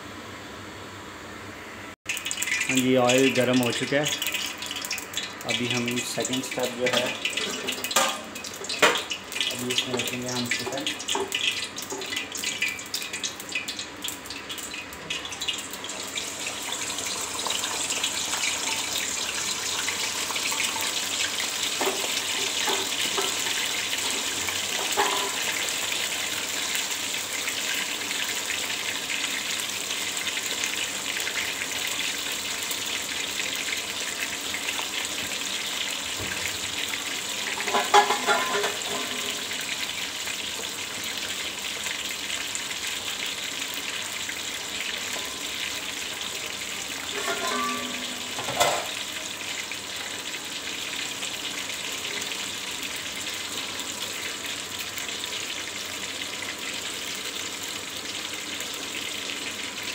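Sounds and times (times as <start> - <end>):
chicken deep-frying in oil: 2.1 - 59.9.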